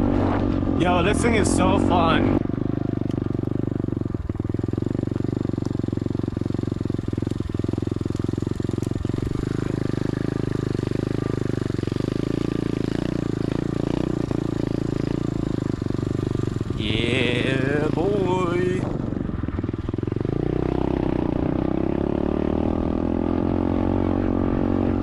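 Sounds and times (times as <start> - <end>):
small motorcycle engine running: 0.5 - 25.0.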